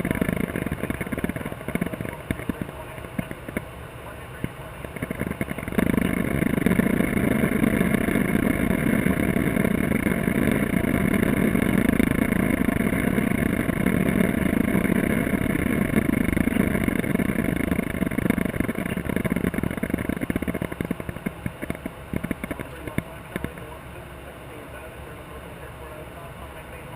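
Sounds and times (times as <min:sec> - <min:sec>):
aircraft engine drone: 0:00.0 - 0:26.9.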